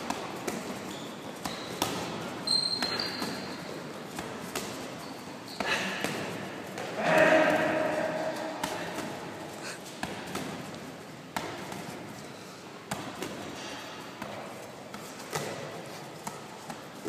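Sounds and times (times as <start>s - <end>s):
ball bouncing on gym floor: 0.0s - 12.1s, 12.9s - 17.0s.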